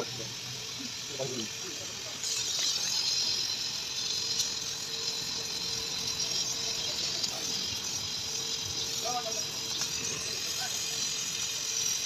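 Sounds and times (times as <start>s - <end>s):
electric arc sizzling hiss: 0.0s - 12.0s.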